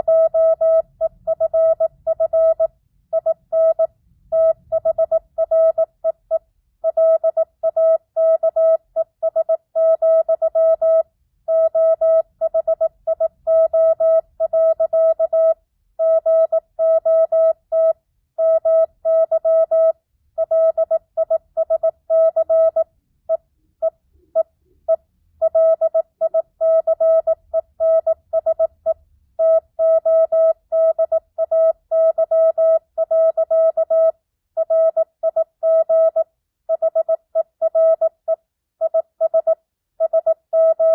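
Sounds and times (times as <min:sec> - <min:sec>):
morse code tone: 0:00.0 - 0:40.9.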